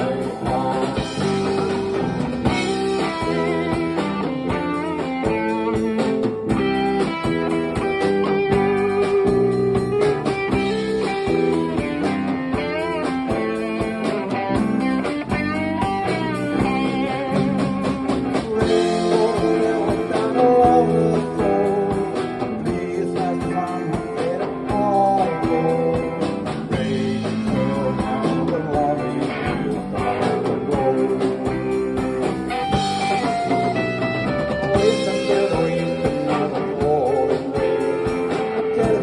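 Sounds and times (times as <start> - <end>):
live band guitar music: 0.0 - 39.0.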